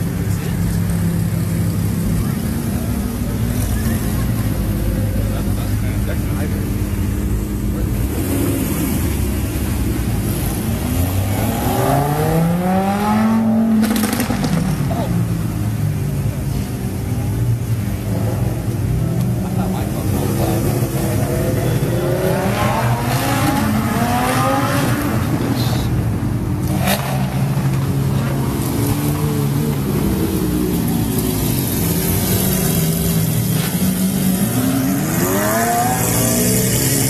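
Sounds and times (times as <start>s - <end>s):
sports car engines revving: 0.0s - 37.0s.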